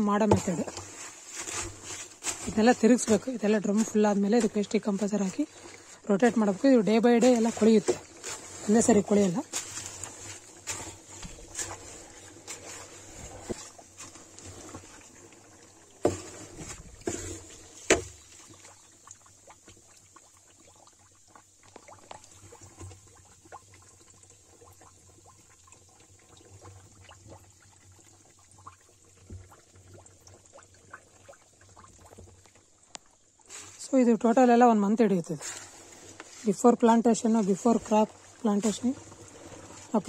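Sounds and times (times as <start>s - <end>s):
liquid trickling: 0.0s - 34.2s, 35.3s - 40.0s
wet mash worked in plastic drum: 0.0s - 40.0s.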